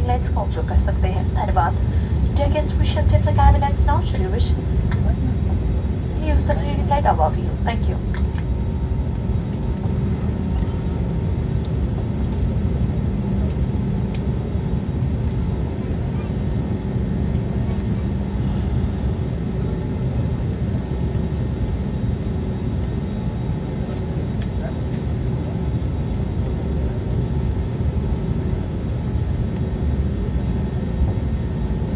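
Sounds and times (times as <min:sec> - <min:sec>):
aircraft cabin engine rumble: 0:00.0 - 0:31.9.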